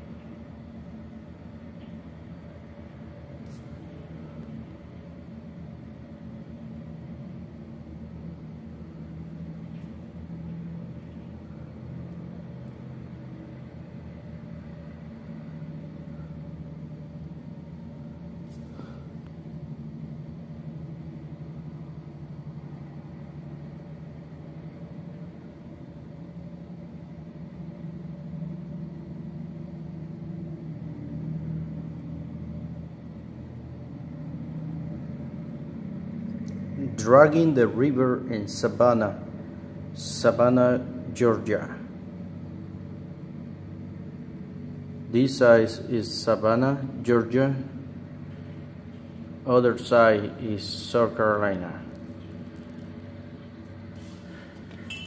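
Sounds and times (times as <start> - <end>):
diesel engines droning: 0.0 - 55.0.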